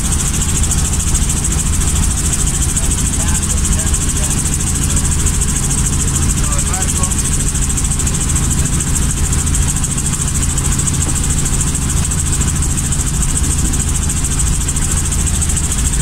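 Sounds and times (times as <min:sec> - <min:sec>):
helicopter engine and rotors: 0:00.0 - 0:16.0.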